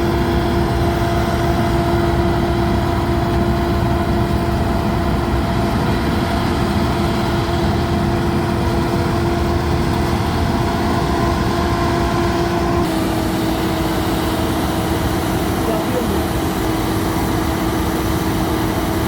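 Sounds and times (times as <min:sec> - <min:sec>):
combine harvester diesel engine: 0:00.0 - 0:19.0
steady whine: 0:00.0 - 0:19.0.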